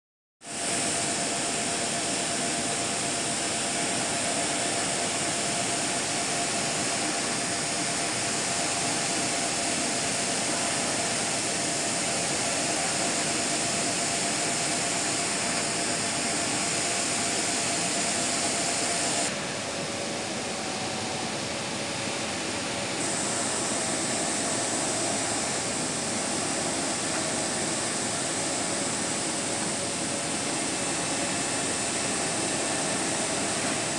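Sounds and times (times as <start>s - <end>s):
printer fans whirring: 0.5s - 33.9s.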